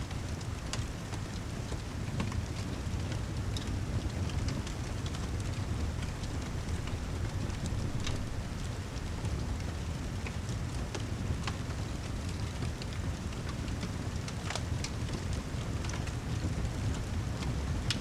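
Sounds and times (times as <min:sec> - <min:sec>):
low rumble of rain: 0:00.0 - 0:18.0
fire crackling and popping: 0:00.1 - 0:18.0.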